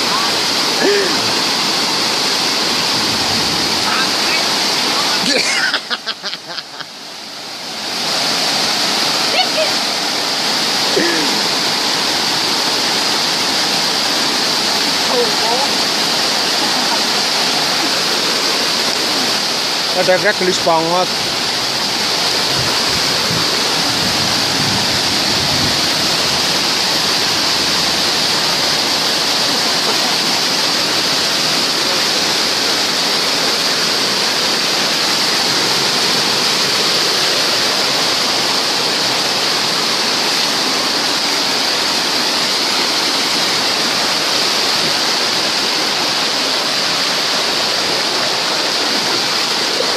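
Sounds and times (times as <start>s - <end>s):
rushing river water: 0.0s - 49.9s.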